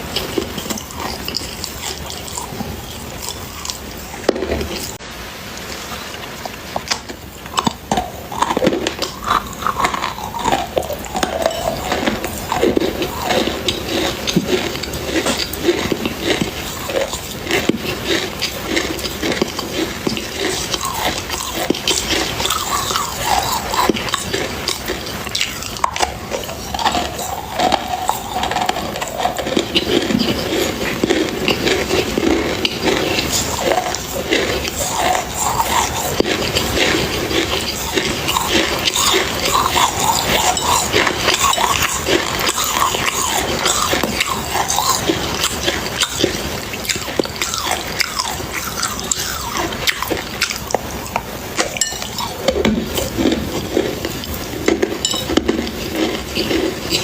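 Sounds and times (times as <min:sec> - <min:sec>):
crunchy chewing: 0:00.0 - 0:05.0, 0:05.6 - 0:57.0.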